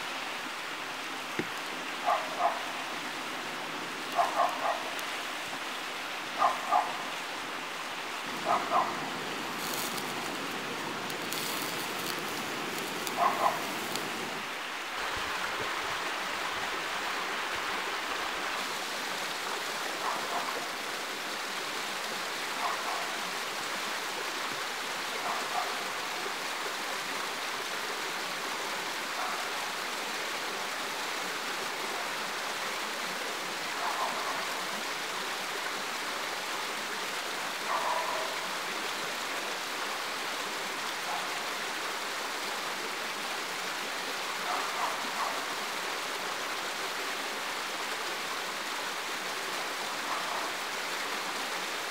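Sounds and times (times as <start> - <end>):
stream rushing over rocks: 0.0 - 51.9.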